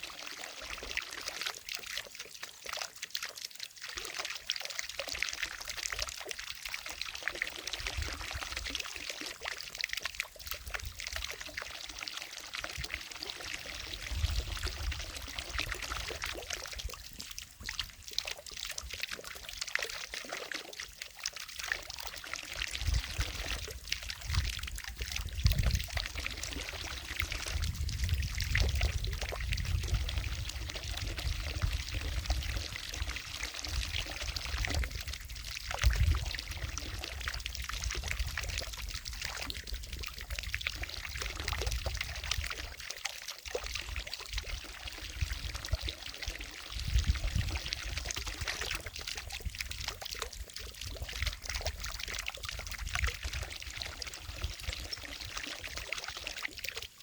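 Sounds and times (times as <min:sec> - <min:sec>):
fountain water splashing into lake: 0:00.0 - 0:57.0.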